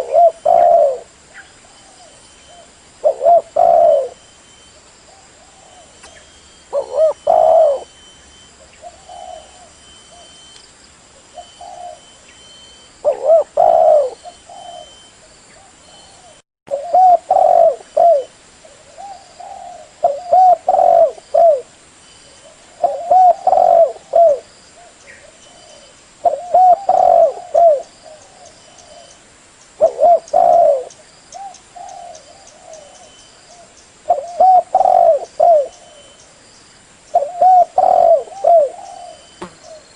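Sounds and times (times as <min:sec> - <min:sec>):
dove cooing: 0:00.0 - 0:04.2, 0:05.1 - 0:10.5, 0:11.3 - 0:21.7, 0:22.4 - 0:29.2, 0:29.8 - 0:36.4, 0:37.1 - 0:39.9.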